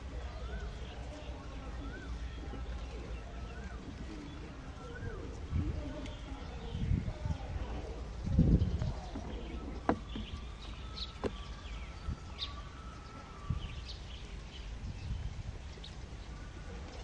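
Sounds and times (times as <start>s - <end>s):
faint bird chirps: 0.1s - 17.0s.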